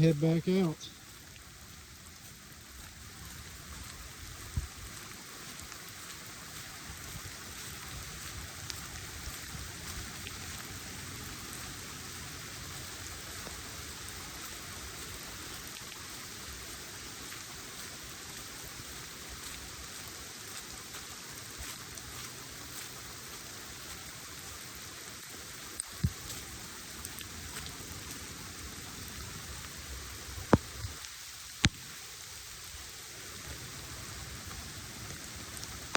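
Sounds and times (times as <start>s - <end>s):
pouring rain: 0.0s - 35.9s.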